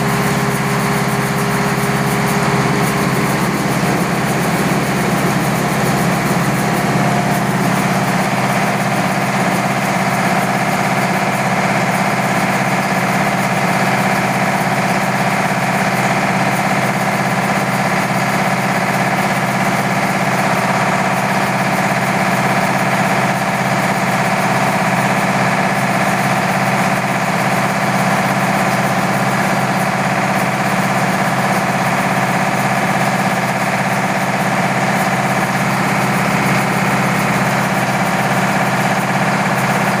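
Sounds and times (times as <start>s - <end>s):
diesel engine drone: 0.0s - 40.0s
rice mill whirring: 0.0s - 40.0s.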